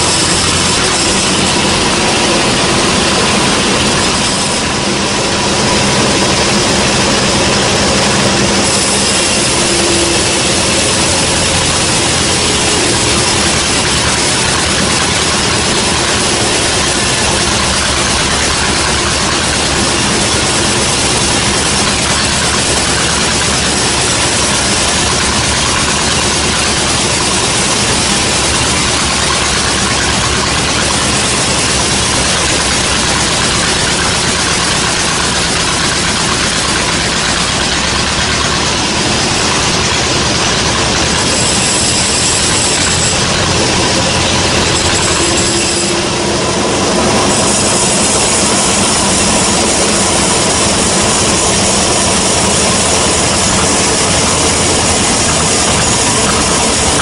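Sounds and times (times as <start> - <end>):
faint high whine: 0.0 - 33.7, 37.7 - 57.0
bandsaw machinery running: 0.0 - 57.0.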